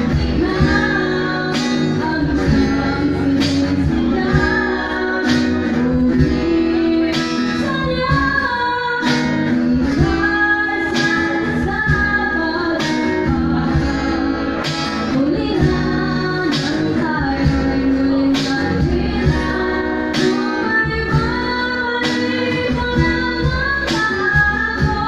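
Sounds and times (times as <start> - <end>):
drum beats: 0.0 - 25.0
strummed acoustic guitar: 0.0 - 25.0
woman singing a ballad: 0.0 - 25.0.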